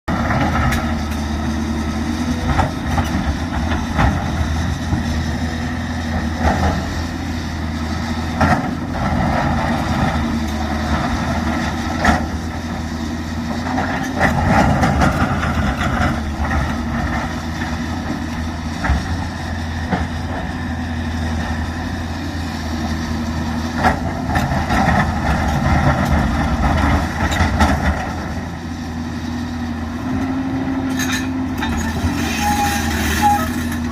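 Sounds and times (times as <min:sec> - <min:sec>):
heavy machinery engine running: 0:00.1 - 0:33.9.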